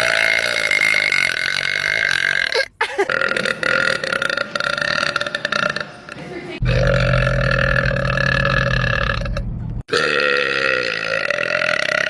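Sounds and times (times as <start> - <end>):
woman burping loudly: 0.0 - 12.0.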